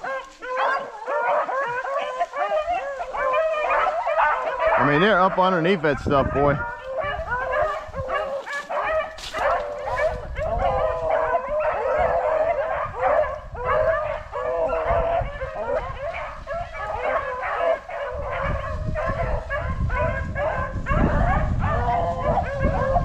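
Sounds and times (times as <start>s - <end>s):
pack of hounds baying: 0.0s - 23.0s.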